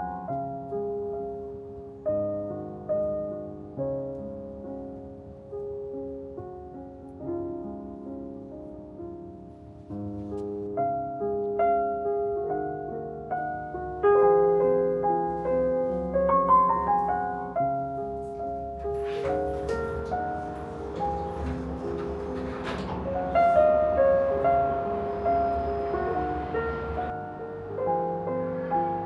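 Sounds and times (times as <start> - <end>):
soft solo piano music: 0.0 - 29.0.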